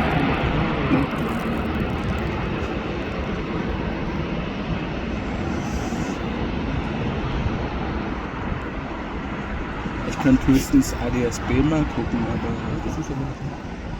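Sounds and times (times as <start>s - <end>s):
airliner engine rush: 0.0s - 13.9s.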